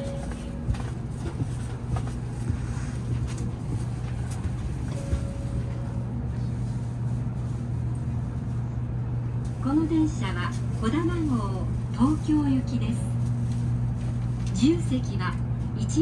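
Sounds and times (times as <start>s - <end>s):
train ventilation hum: 0.0s - 16.0s.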